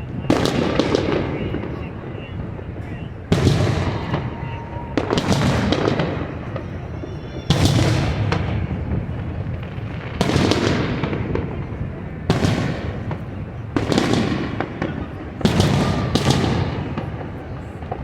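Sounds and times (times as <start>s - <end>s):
fireworks booming: 0.0s - 18.0s
fireworks crackling: 0.0s - 18.0s.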